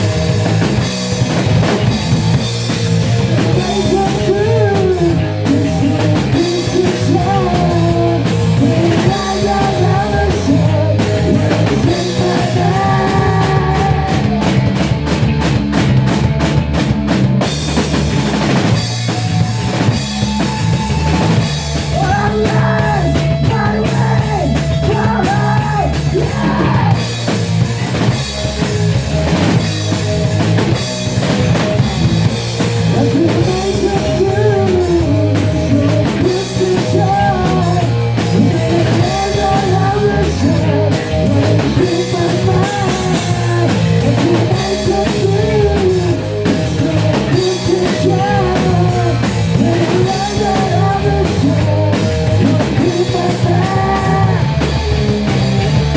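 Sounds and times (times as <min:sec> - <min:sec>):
drum kit beat: 0:00.0 - 0:55.9
rock band playing: 0:00.0 - 0:55.9.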